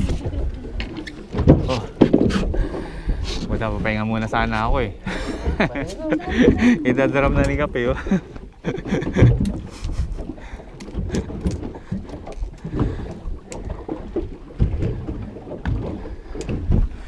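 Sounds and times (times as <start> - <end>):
water lapping against hull: 0.0 - 17.0.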